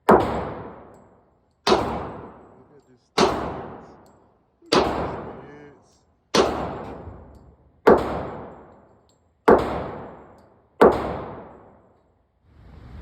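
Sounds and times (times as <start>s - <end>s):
pistol shots with echo: 0.0s - 12.0s.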